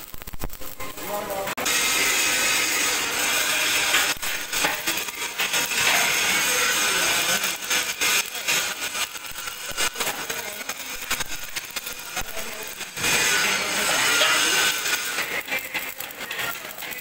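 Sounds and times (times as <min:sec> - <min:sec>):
power tool running: 0:01.6 - 0:16.1.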